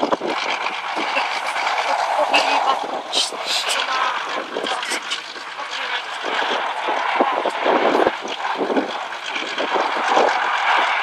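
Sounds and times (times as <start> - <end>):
tank engine running: 0.0 - 11.0.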